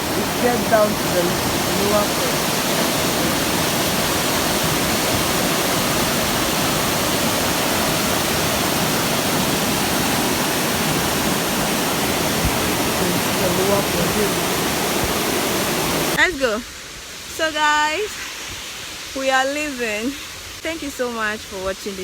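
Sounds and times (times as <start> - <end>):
waterfall rushing: 0.0 - 19.1.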